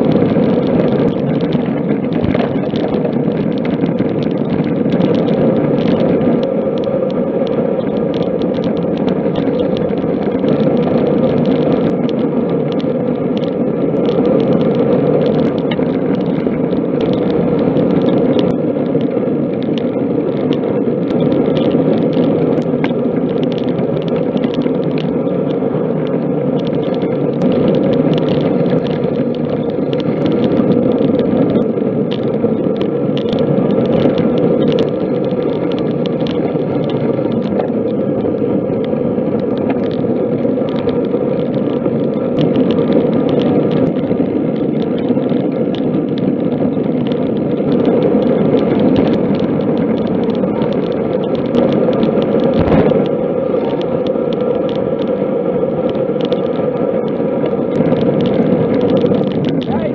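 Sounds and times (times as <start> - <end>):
bicycle tyre noise: 0.0 - 59.9.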